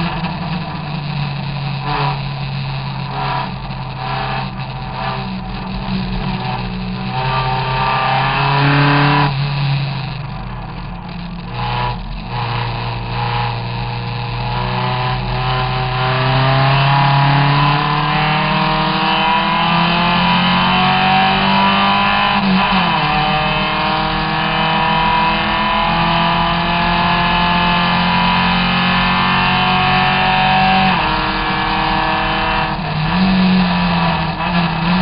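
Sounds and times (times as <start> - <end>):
race car engine: 0.0 - 35.0.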